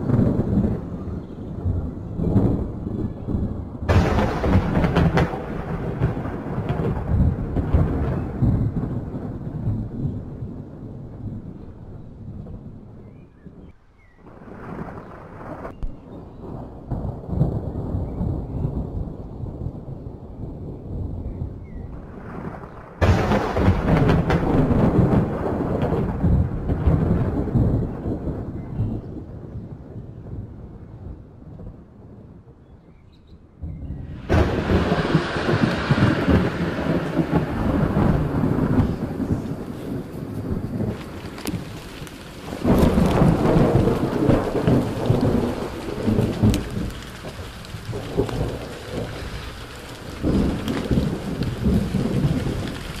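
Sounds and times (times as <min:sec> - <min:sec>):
falling rain: 0:00.0 - 0:53.0
thunder rumbling: 0:00.0 - 0:53.0.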